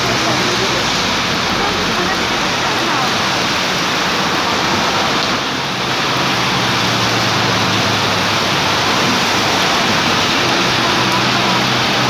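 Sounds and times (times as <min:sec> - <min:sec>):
cars driving through water: 0:00.0 - 0:12.0
heavy rain on pavement: 0:00.0 - 0:12.0.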